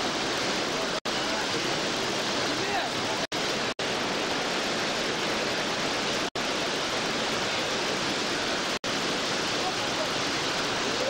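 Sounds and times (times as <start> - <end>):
whitewater rapids roaring: 0.0 - 11.0.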